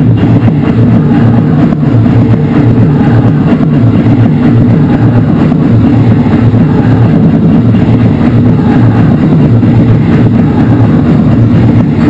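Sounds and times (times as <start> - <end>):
harsh noise music: 0.0 - 12.0.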